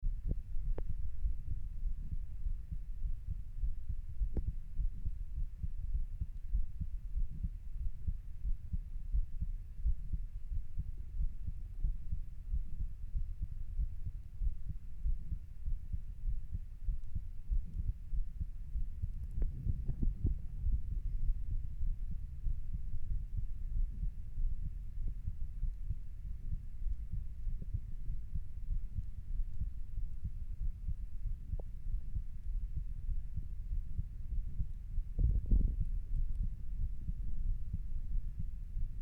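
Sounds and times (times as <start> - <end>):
heartbeat thumps: 0.0 - 39.0.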